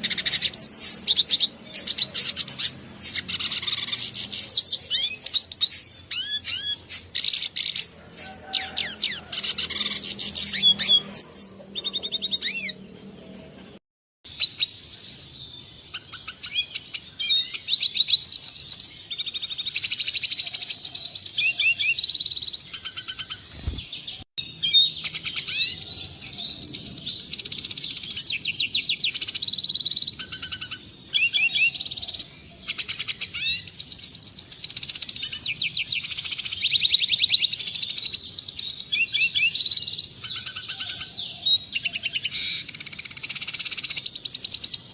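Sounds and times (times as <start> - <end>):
bird twittering warble: 0.0 - 7.9, 8.5 - 13.7, 14.4 - 44.9.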